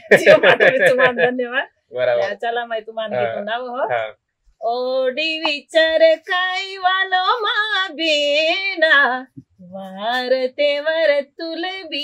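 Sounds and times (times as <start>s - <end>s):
woman singing unaccompanied: 0.0s - 1.6s, 2.2s - 3.9s, 4.6s - 12.0s.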